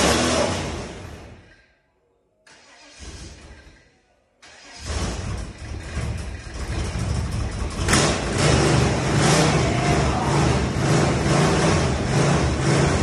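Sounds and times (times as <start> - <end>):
car engine starting and running: 0.0 - 1.7, 2.4 - 13.0.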